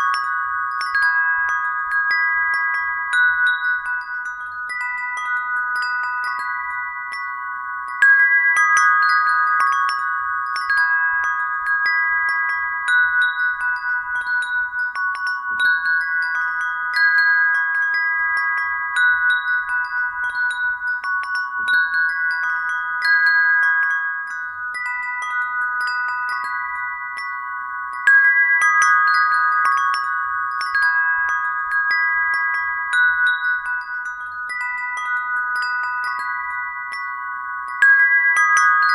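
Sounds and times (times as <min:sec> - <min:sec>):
brass wind bell ringing: 0:00.0 - 0:38.9.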